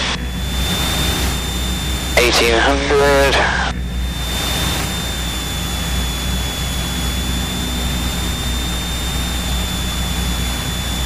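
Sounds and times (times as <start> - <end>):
propeller plane engine drone: 0.0 - 11.0
thin high whine: 0.0 - 11.0.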